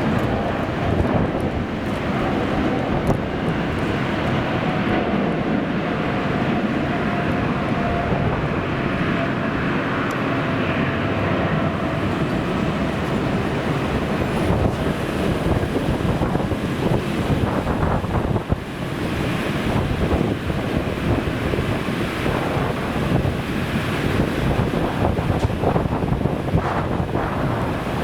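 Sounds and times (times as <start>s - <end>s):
jet airliner engines rumbling: 0.0s - 28.0s
wind buffeting microphone: 0.0s - 28.0s.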